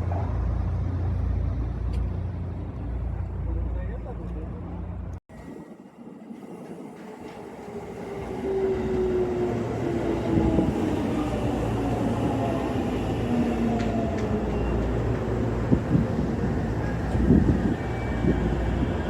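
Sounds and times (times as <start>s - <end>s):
train running through station: 0.0s - 19.0s.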